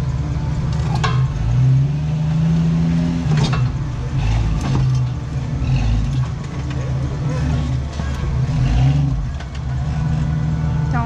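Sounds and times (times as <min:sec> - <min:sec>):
engine pulling in low gear: 0:00.0 - 0:11.0.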